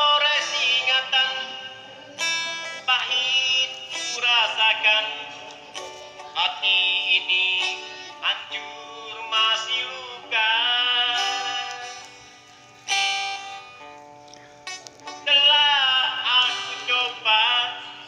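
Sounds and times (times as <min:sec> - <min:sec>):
plucked-string accompaniment: 0:00.0 - 0:18.0.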